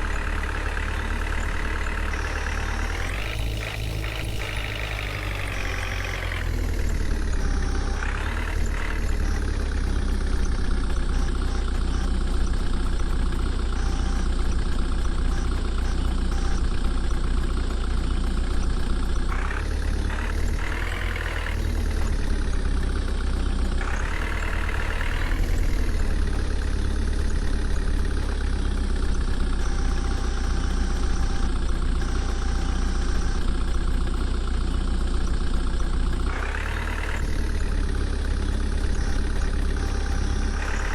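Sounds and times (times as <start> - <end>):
diesel engine rumbling and revving: 0.0 - 40.9.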